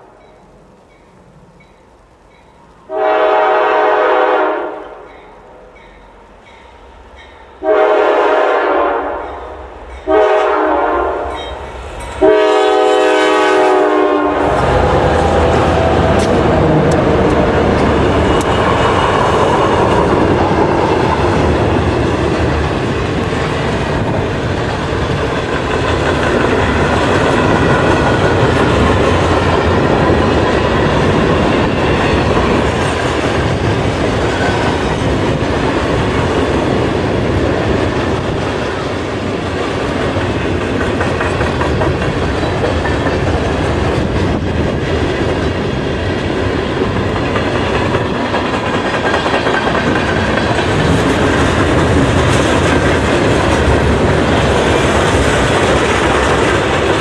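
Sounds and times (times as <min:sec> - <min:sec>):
freight train cars rolling past: 0:00.0 - 0:57.0.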